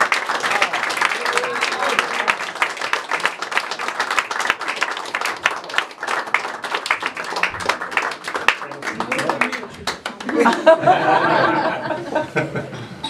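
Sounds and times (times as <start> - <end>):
small audience applauding: 0.0 - 12.0.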